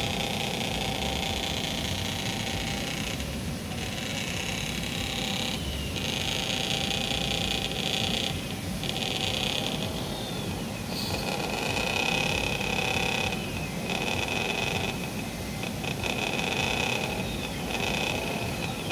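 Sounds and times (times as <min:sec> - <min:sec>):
outdoor background noise: 0:00.0 - 0:18.9
toy truck electric motor whining: 0:00.0 - 0:18.9.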